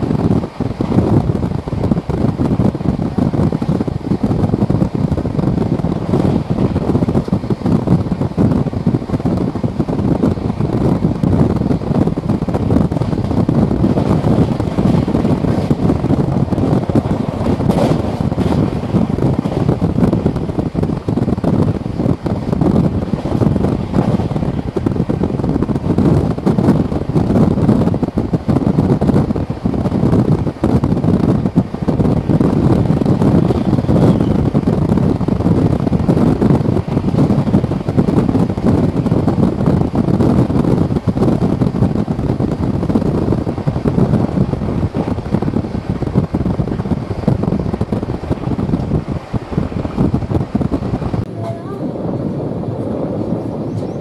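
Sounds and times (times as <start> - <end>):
steel wheels on rails: 0.0 - 54.0
wind rushing: 0.0 - 54.0.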